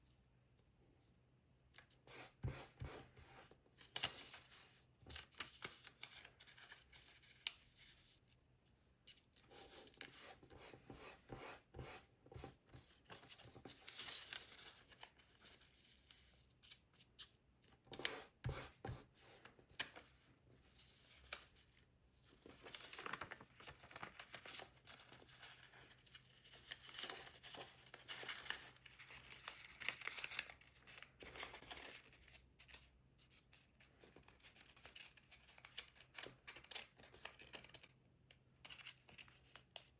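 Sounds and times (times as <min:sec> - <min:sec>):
paper rustling and folding: 0:01.8 - 0:10.5, 0:12.7 - 0:39.9.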